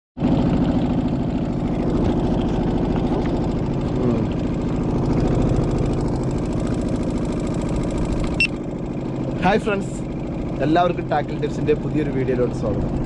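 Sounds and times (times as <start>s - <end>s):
small boat motor running: 0.2s - 13.0s.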